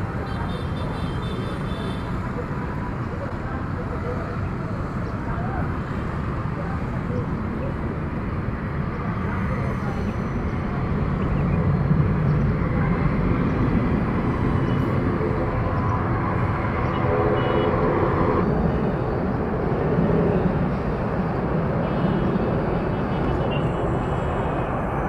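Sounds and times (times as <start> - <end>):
jet airliner engines rumbling: 0.0 - 25.0.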